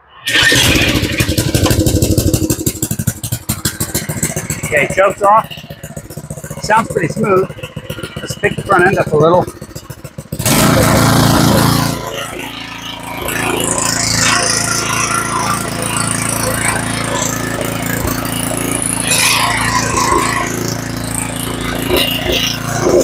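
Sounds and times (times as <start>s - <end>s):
small tiller engine running: 0.2s - 23.0s.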